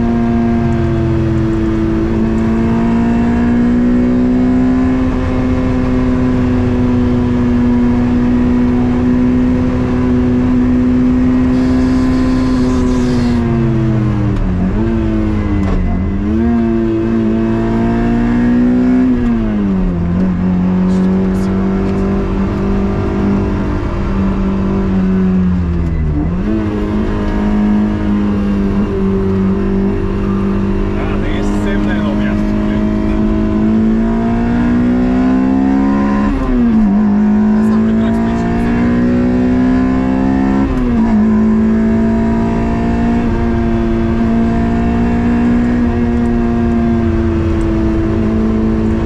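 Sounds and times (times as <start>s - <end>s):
car engine at high revs: 0.0s - 49.0s.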